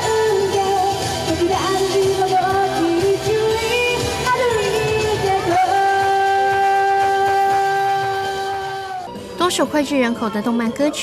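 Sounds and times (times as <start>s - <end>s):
backing music: 0.0s - 11.0s
woman singing pop song: 0.0s - 11.0s.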